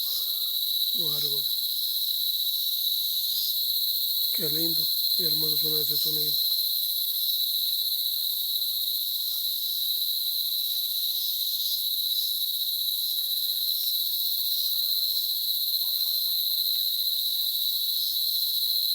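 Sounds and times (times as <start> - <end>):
cicadas singing: 0.0 - 18.9.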